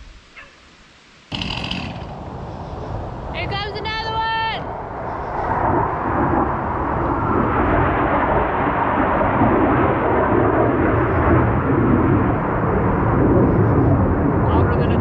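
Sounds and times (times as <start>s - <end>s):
strong gust of wind: 1.3s - 15.0s.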